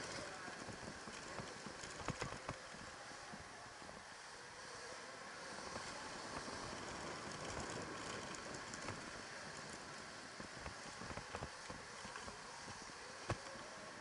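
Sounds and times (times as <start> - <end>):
bike knocking and rattling: 0.0 - 4.1, 5.5 - 14.0
tyre and air rushing hiss: 0.0 - 14.0.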